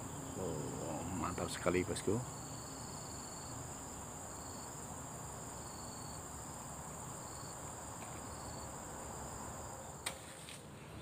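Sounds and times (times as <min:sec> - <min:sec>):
insect trills: 0:00.0 - 0:10.2
insects chirring drone: 0:00.0 - 0:11.0.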